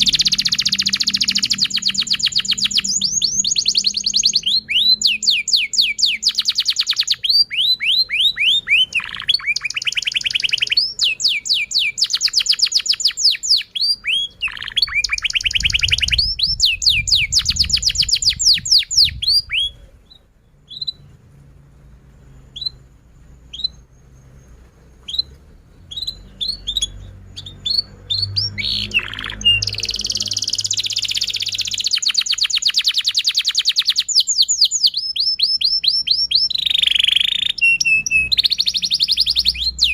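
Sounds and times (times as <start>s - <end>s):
canary trilling and chirping: 0.0s - 21.2s, 22.4s - 39.9s.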